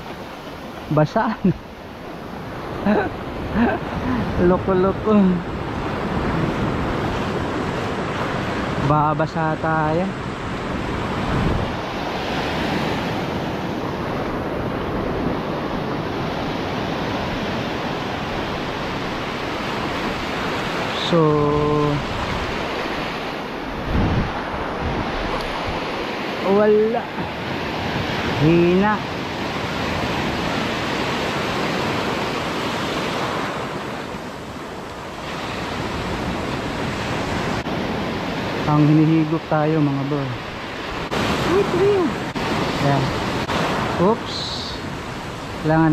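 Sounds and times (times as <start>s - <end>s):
ocean surf breaking: 0.0s - 45.9s
small waves washing on beach: 0.0s - 45.9s.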